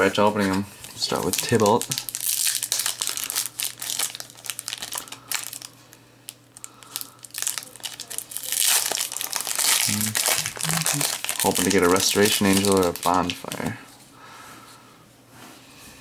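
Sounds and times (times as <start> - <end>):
foil wrapper crinkling: 0.4 - 13.7.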